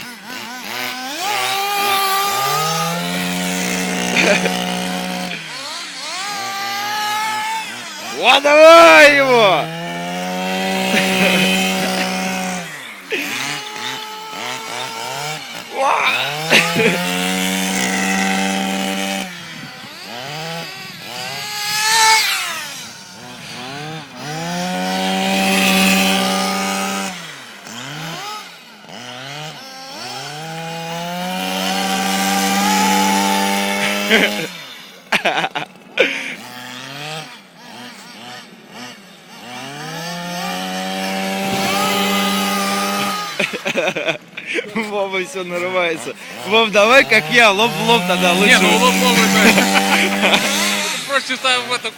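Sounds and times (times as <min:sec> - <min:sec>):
small nitro engines revving: 0:00.0 - 0:51.9.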